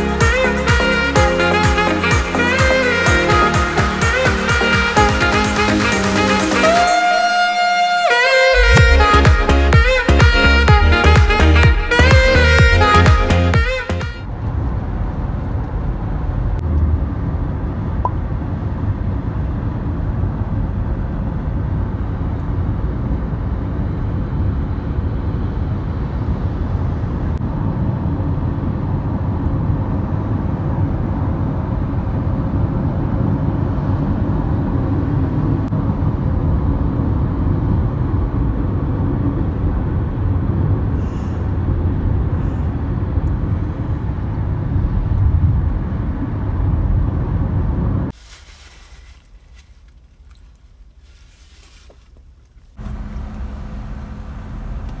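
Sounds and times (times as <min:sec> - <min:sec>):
moving vehicle rumble: 0:00.0 - 0:55.0.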